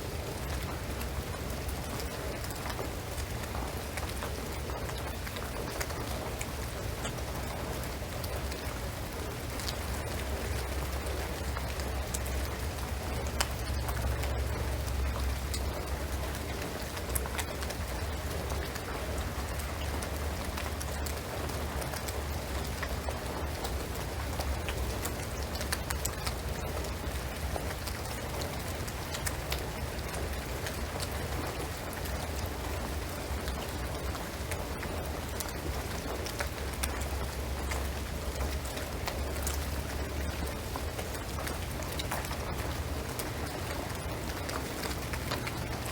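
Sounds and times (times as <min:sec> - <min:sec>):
rain on a roof: 0:00.0 - 0:45.9.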